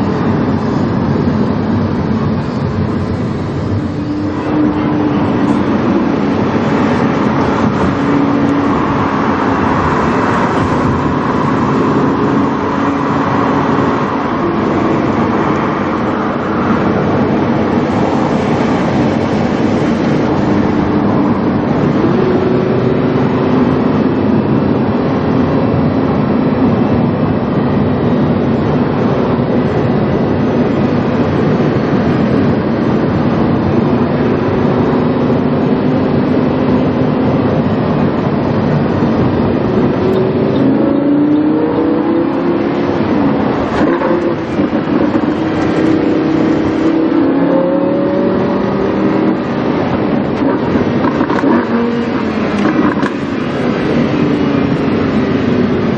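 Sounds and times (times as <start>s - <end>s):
car engine revving: 0.0s - 55.9s
road noise: 0.0s - 55.9s.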